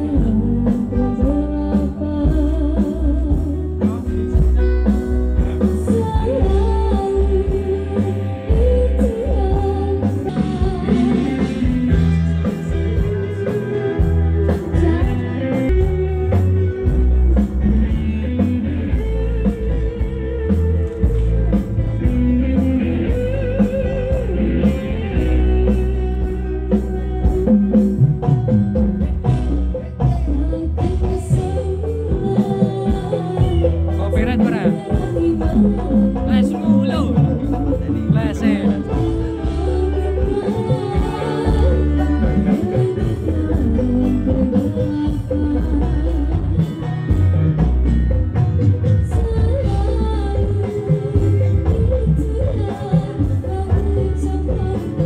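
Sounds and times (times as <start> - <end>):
song with singing over speakers: 0.0 - 55.0.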